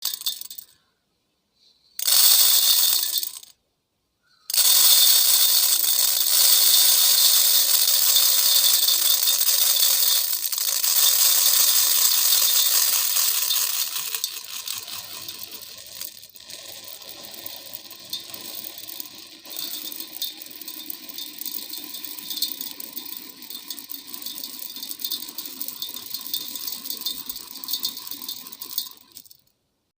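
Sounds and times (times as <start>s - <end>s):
rice rattling on metal plate: 0.0s - 0.7s, 2.0s - 3.5s, 4.5s - 29.4s.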